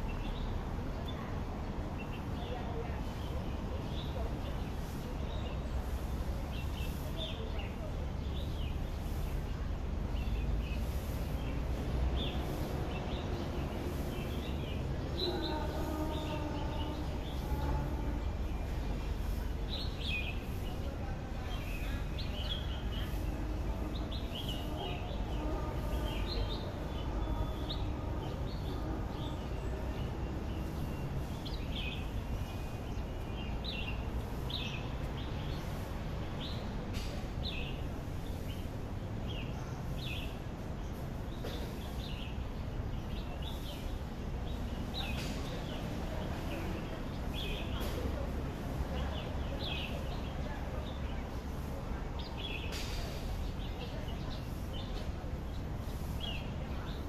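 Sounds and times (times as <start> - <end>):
small birds chirping: 1.9 - 57.0.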